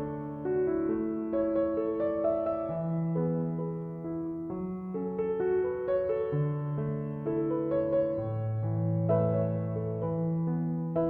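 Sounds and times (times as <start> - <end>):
soft slow piano: 0.0 - 11.0.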